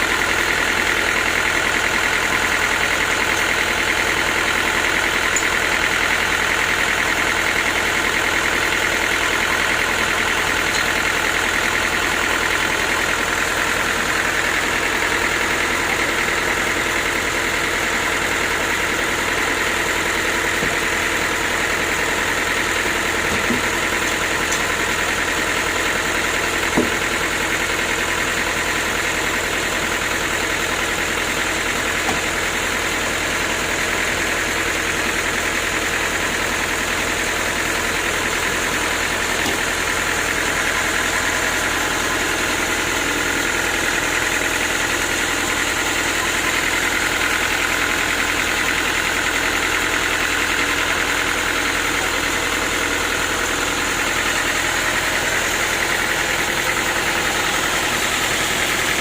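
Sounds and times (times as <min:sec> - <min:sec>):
sawmill machine running: 0:00.0 - 0:59.0.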